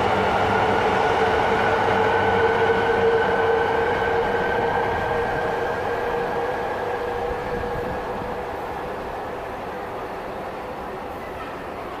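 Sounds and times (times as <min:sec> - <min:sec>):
electric train whine and rumble: 0:00.0 - 0:12.0.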